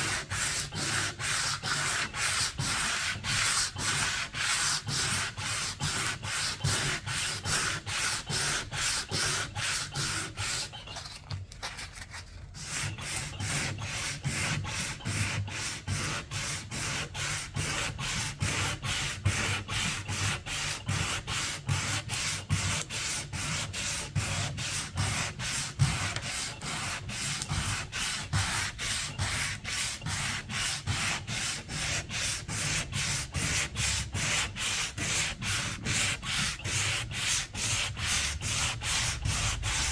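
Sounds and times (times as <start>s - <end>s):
sandpaper rubbing back and forth: 0.0s - 11.2s, 12.0s - 39.9s.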